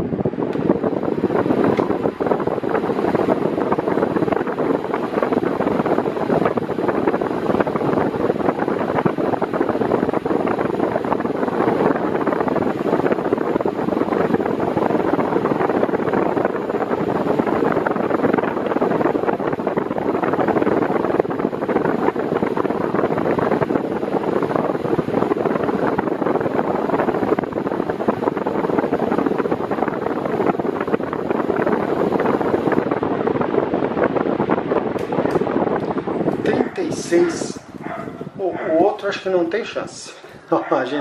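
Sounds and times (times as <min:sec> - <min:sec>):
electric fan airflow rushing: 0:00.0 - 0:41.0.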